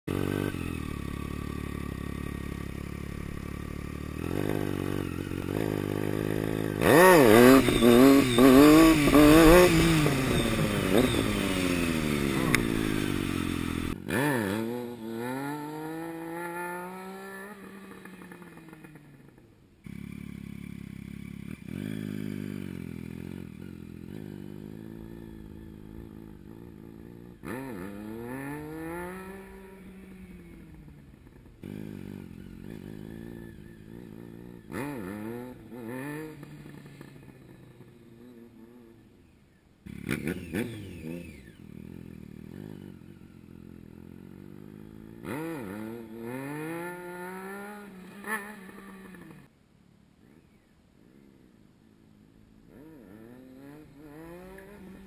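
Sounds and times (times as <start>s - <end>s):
motorcycle engine revving: 0.0s - 49.5s, 52.1s - 55.0s.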